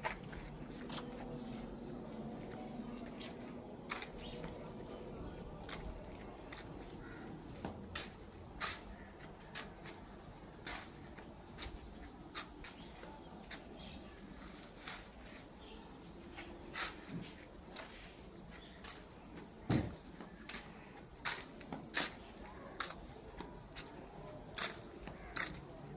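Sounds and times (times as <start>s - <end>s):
high-pitched insect trill: 0.0s - 25.9s.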